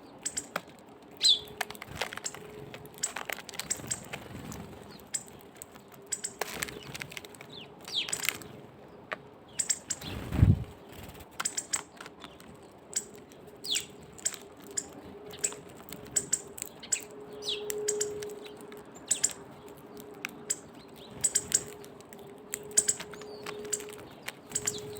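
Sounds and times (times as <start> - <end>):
birds pecking clicks: 0.2 - 24.9.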